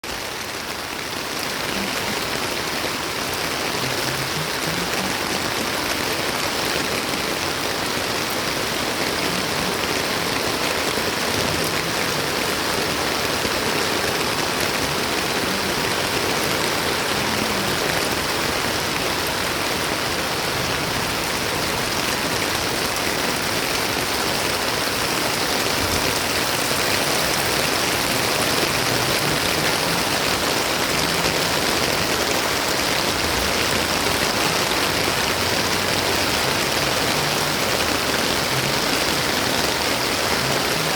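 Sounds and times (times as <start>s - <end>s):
steady heavy rain: 0.0s - 40.9s.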